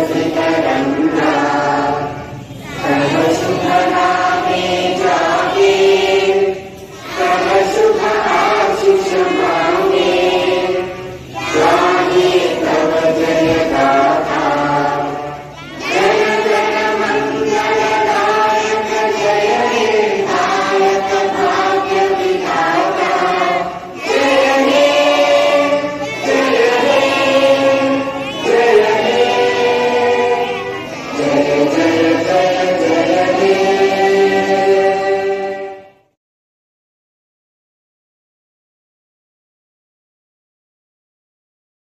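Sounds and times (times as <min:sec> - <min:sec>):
children singing in unison: 0:00.0 - 0:36.0.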